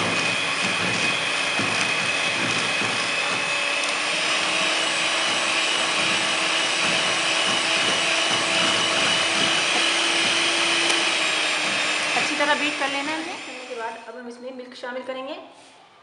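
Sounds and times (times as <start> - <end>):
electric hand mixer whisking: 0.0 - 14.1.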